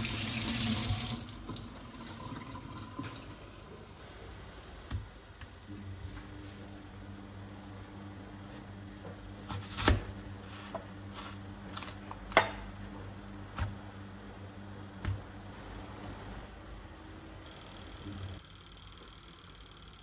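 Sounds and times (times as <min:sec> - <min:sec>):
steady low hum: 0:03.2 - 0:20.0.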